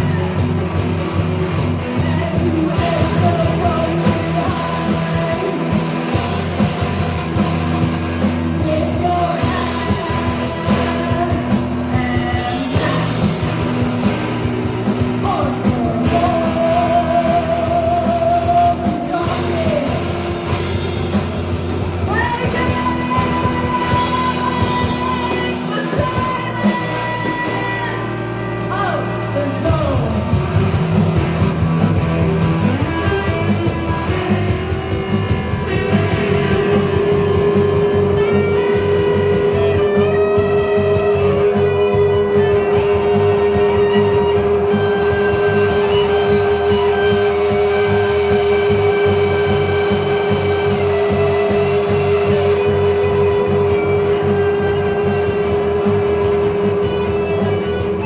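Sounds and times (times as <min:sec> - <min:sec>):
drums: 0:00.0 - 0:58.0
electric guitar: 0:00.0 - 0:58.0
live rock band playing: 0:00.0 - 0:58.0.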